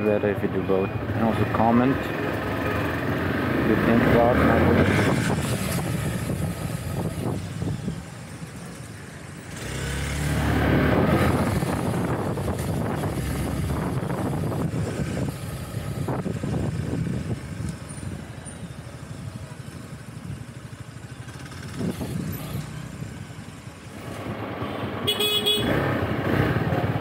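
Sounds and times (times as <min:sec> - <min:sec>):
road and traffic noise: 0:00.0 - 0:27.0.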